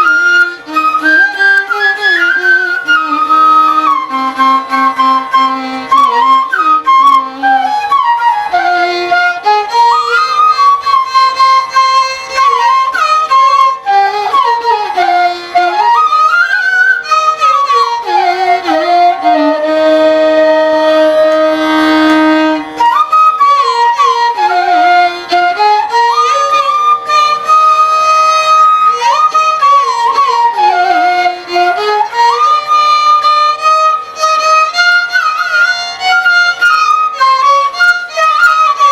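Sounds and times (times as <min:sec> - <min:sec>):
sliding violin melody: 0:00.0 - 0:38.9.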